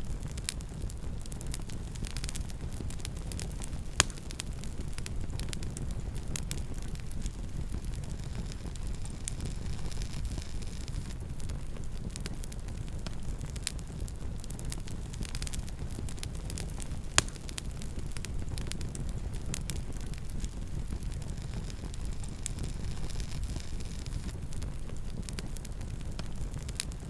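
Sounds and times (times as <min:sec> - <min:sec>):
campfire burning: 0:00.0 - 0:27.0
wood crackling and popping: 0:00.0 - 0:27.0.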